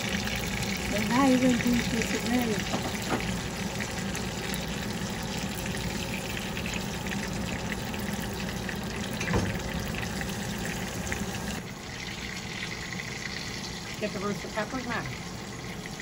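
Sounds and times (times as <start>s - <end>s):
chicken frying in oil: 0.0s - 16.0s.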